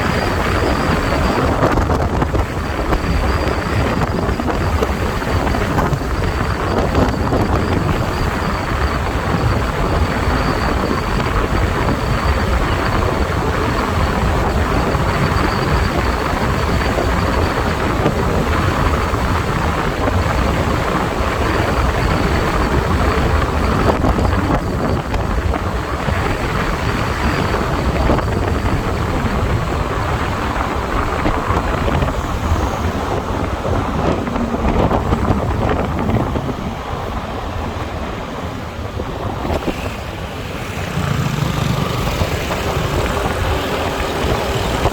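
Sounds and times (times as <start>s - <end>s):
motorbike engine: 0.0s - 44.9s
wind buffeting microphone: 0.0s - 44.9s.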